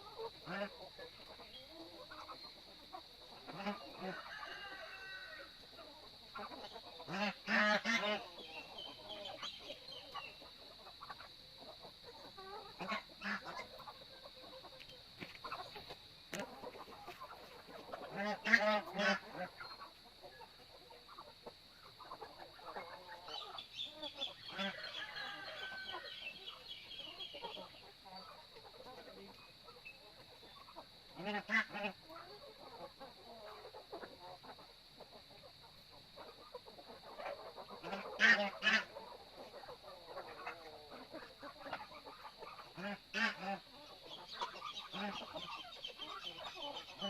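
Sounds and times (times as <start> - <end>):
poultry clucking: 0.0 - 47.0.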